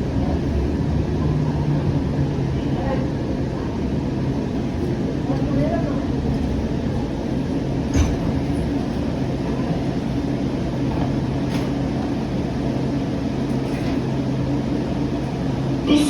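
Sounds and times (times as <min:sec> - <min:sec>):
rail car low hum: 0:00.0 - 0:16.0.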